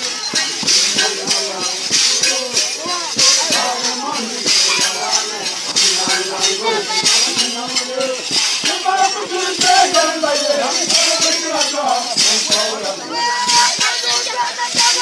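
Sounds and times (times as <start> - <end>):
crowd singing and calling: 0.0 - 15.0
metal rattles jingling: 0.0 - 15.0.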